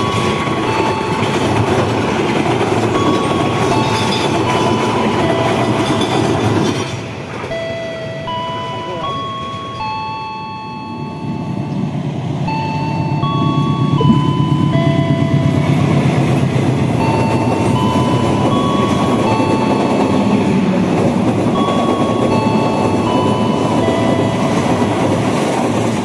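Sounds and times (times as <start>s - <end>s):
simple melody of held notes: 0.0s - 6.2s, 7.5s - 25.2s
train rumble and wheel clatter: 0.0s - 26.0s.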